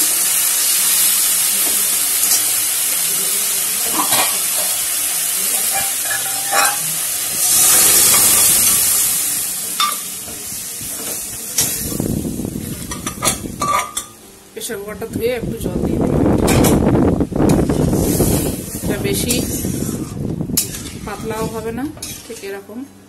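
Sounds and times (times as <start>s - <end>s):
leaves sizzling in oil: 0.0s - 14.3s, 17.1s - 22.5s.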